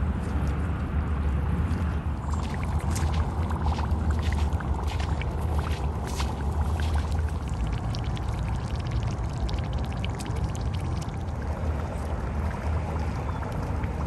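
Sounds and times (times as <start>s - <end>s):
steady low rumble: 0.0s - 14.0s
air bubbling through water: 2.2s - 14.0s.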